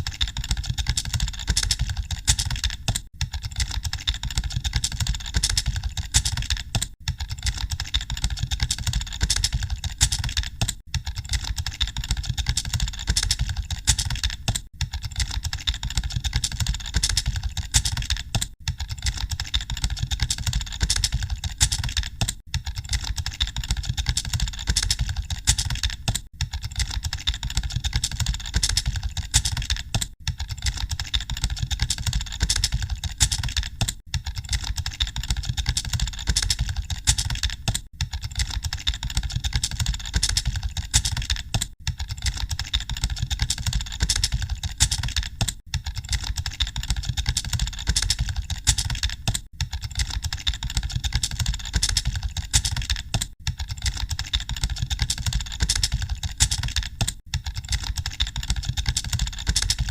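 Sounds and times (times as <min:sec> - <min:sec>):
keyboards clattering: 0:00.0 - 0:06.9, 0:07.5 - 0:45.6, 0:46.4 - 0:53.3, 0:53.9 - 0:59.9.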